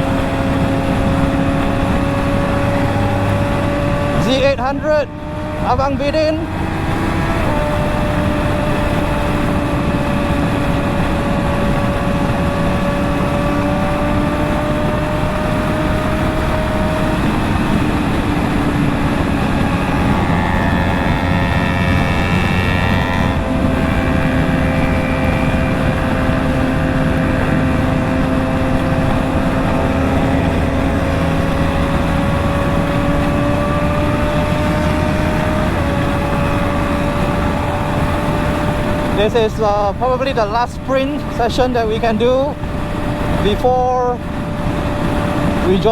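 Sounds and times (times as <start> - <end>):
higher engine note: 0.0 - 45.9
motorcycle engine cruising: 0.0 - 45.9
wind and road noise: 0.0 - 45.9.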